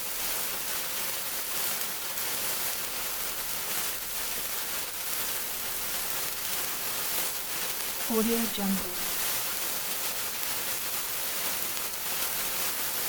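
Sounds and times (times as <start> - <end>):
sparkler fizzing and crackling: 0.0 - 13.0.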